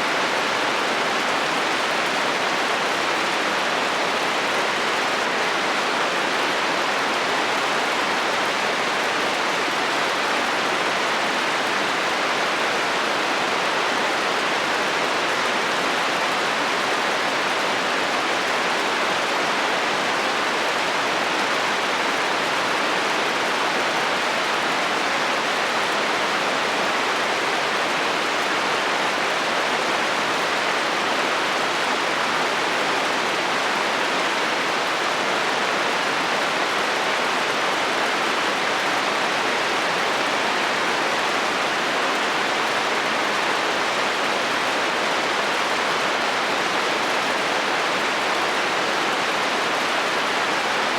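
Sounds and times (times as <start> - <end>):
rain drumming on a metal roof: 0.0 - 50.9.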